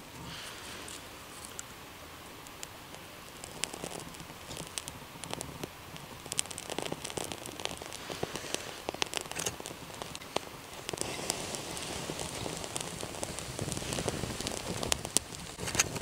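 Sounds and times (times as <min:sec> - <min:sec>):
wood shavings crackling in fire: 0:00.0 - 0:16.0.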